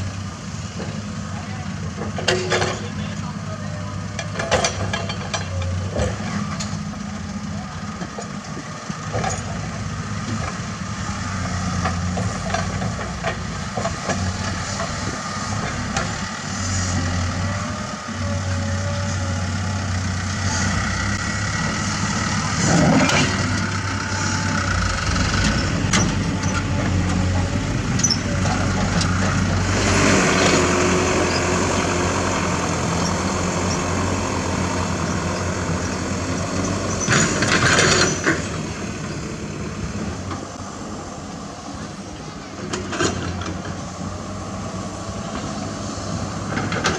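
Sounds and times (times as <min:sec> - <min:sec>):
heavy machinery diesel engines: 0:00.0 - 0:46.9.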